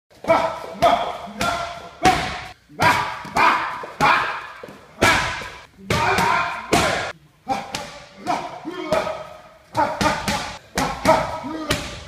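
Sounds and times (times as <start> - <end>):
room echo: 0.1 - 12.0.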